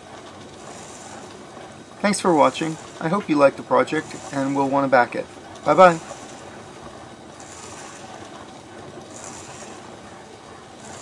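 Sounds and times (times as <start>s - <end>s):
gears clattering fast: 0.4s - 11.0s.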